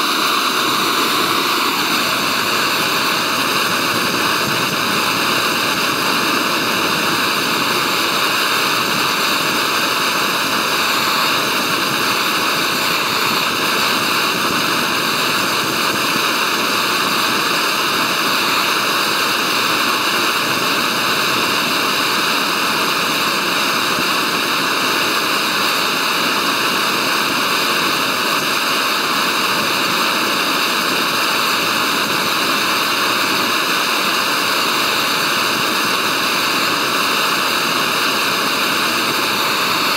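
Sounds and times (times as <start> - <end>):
gas stove burner hissing: 0.0 - 39.9.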